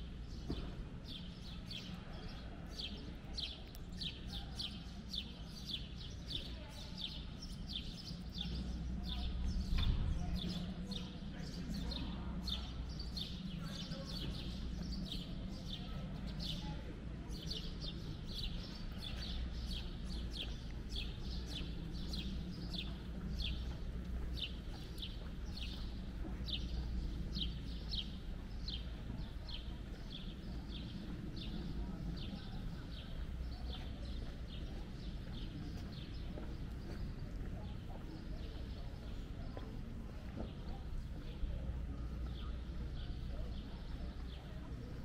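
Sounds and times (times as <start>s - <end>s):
low hum of town noise: 0.0s - 45.0s.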